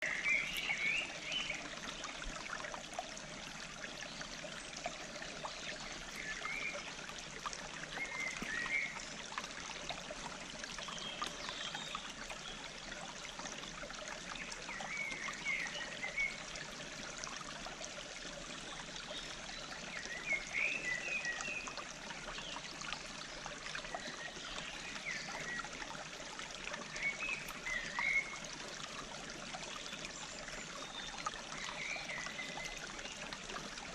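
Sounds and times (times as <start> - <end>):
stream flowing: 0.0 - 33.9.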